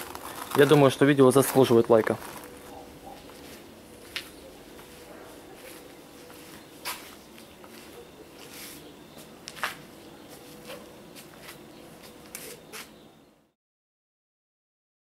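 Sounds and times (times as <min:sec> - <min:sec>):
footsteps on gravel and concrete: 0:00.0 - 0:13.0
faint steady hum: 0:00.0 - 0:13.6.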